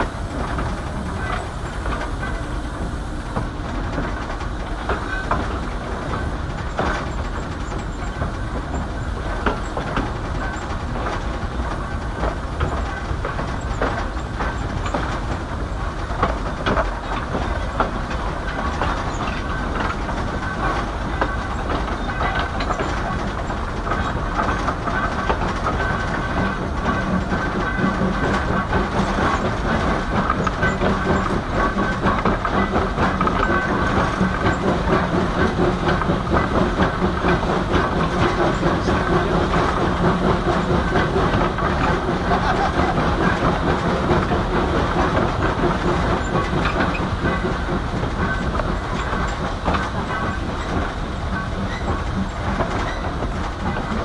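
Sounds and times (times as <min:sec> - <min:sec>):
train rumbling along track: 0:00.0 - 0:54.0
wheels clicking over rail joints: 0:00.0 - 0:54.0.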